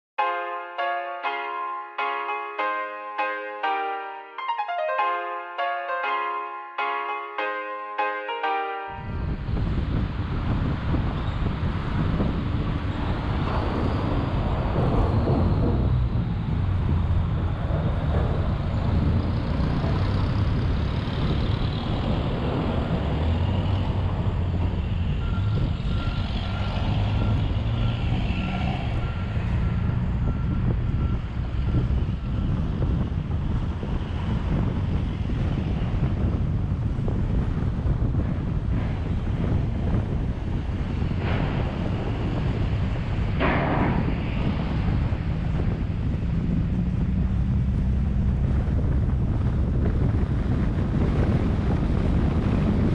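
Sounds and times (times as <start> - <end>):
street traffic with heavy vehicles: 5.1 - 52.9.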